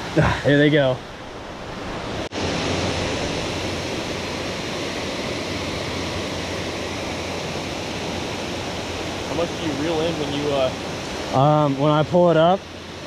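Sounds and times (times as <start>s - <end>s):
waterfall rushing into pool: 0.0s - 13.0s.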